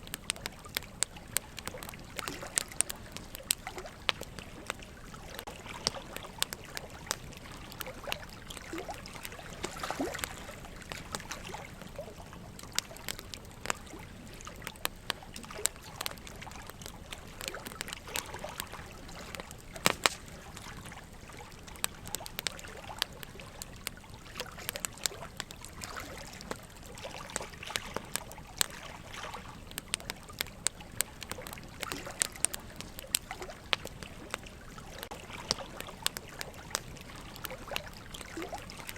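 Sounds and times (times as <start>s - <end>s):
logs burning and crackling: 0.0s - 38.9s
running water trickling: 0.0s - 38.9s.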